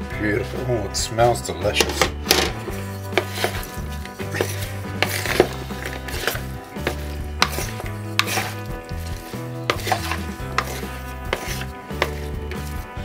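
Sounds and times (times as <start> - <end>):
wooden spoon scraping bowl: 1.7 - 13.0.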